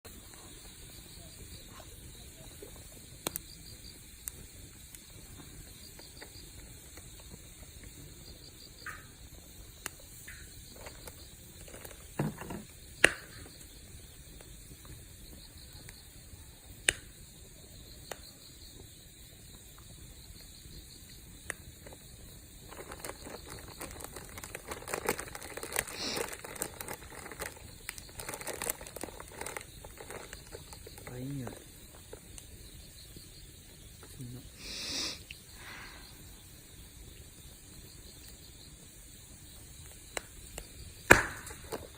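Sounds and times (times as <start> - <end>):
campfire crackling: 0.1 - 41.9
insects chirping: 0.1 - 41.9
sharp pops of fire: 0.1 - 41.9.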